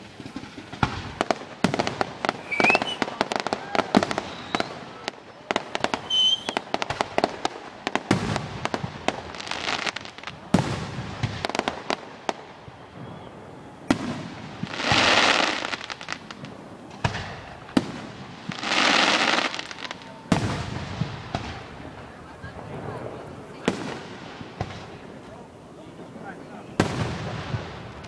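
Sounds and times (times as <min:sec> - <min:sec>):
firework shells booming: 0:00.0 - 0:25.3, 0:26.0 - 0:28.0
crackling firework stars: 0:00.0 - 0:28.0
hissing crackle: 0:00.0 - 0:28.0.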